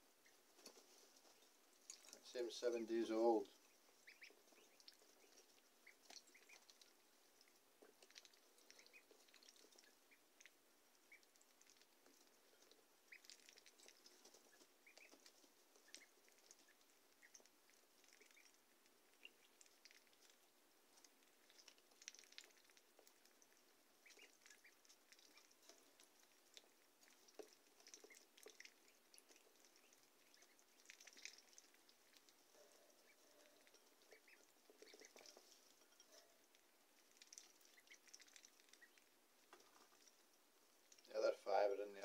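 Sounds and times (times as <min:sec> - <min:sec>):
ducklings peeping: 0:00.0 - 0:41.6.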